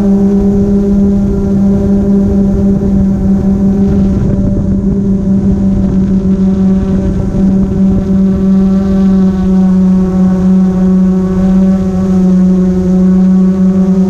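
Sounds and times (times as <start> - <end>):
drone propellers humming: 0.0 - 14.0.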